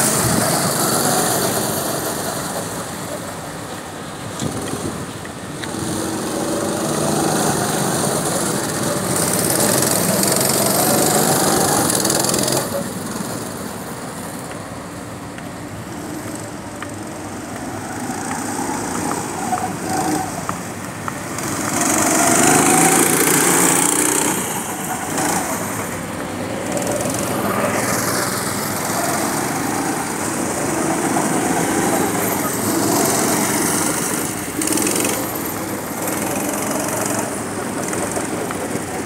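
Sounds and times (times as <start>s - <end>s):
go-kart engines buzzing: 0.0s - 39.0s.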